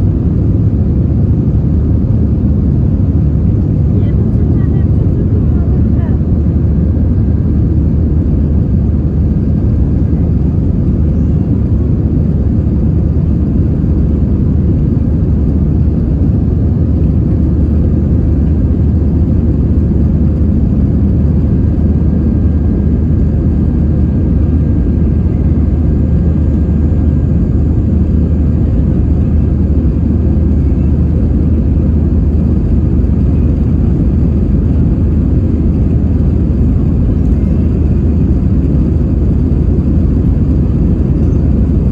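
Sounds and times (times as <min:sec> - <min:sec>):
aircraft engines rumbling in cabin: 0:00.0 - 0:41.9.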